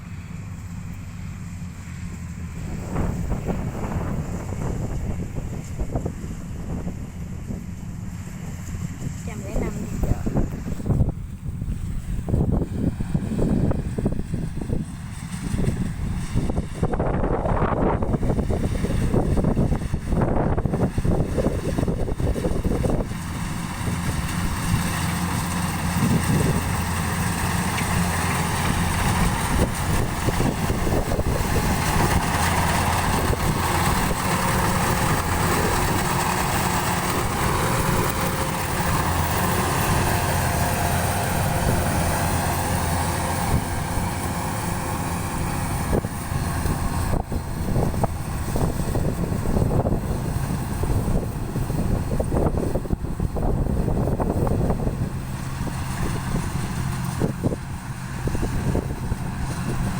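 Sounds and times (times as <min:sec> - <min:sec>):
combine harvester engines humming: 0:00.0 - 0:59.9.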